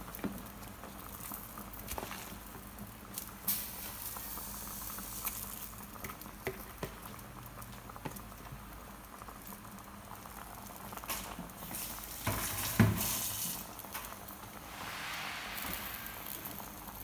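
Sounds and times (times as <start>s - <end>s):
soup bubbling in a pot: 0.0s - 14.8s.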